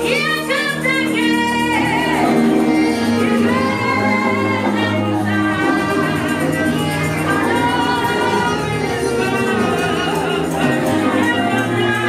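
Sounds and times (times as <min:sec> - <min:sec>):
band accompaniment: 0:00.0 - 0:12.0
woman singing into a microphone: 0:00.0 - 0:12.0.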